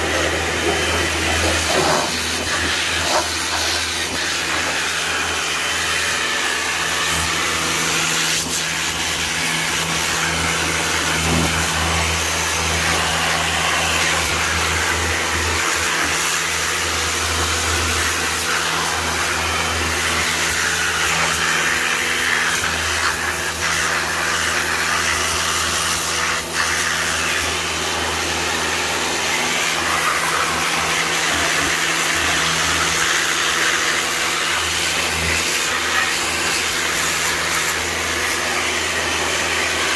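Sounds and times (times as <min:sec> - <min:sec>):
pressure washer pump hum: 0:00.0 - 0:39.9
water jet hissing: 0:00.0 - 0:39.9.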